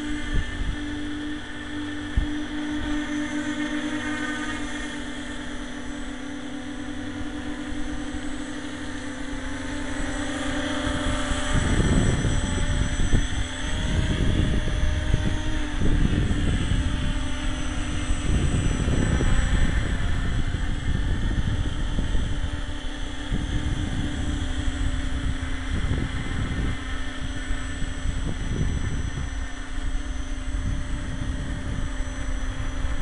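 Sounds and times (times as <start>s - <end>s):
wind buffeting microphone: 0.0s - 3.6s, 4.6s - 33.0s
drone propellers humming: 0.0s - 33.0s.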